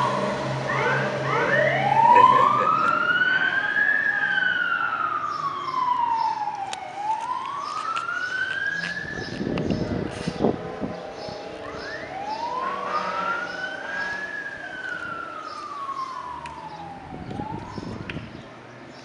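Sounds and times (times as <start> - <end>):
siren slow wail: 0.0 - 18.3.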